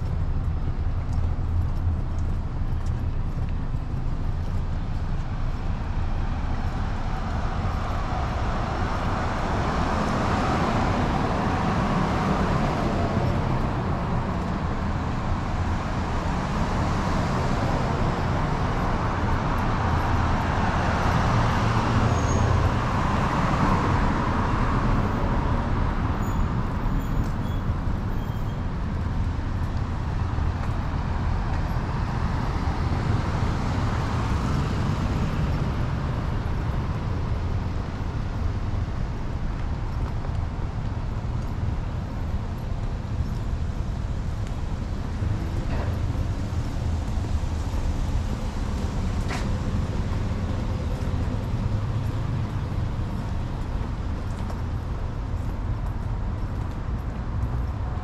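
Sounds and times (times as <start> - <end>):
cars and trucks passing: 0.0 - 58.0.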